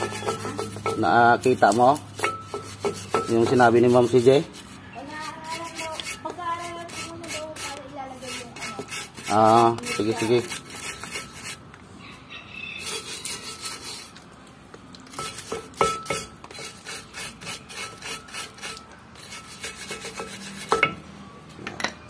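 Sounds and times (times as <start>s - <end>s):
brush scrubbing metal: 0.0s - 11.6s, 12.8s - 14.3s, 15.1s - 20.8s.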